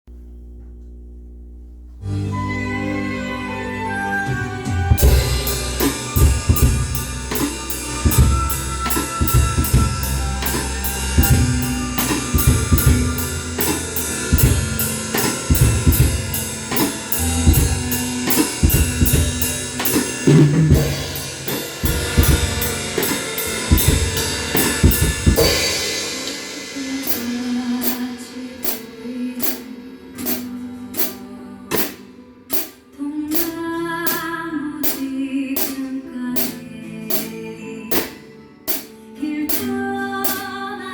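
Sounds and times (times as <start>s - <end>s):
ballad backing track: 0.2s - 40.9s
drum kit playing: 3.9s - 40.6s
cymbal strikes: 5.0s - 40.6s.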